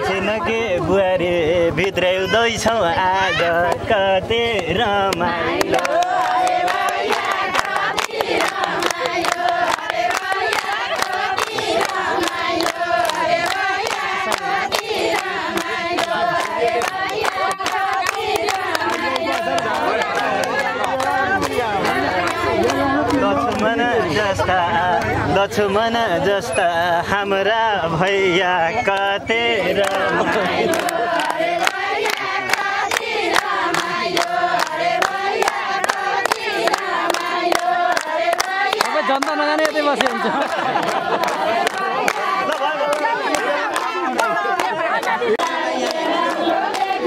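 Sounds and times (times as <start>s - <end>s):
women singing folk song: 0.0s - 24.8s, 28.6s - 39.1s, 39.9s - 47.0s
hands clapping to the beat: 0.0s - 47.0s.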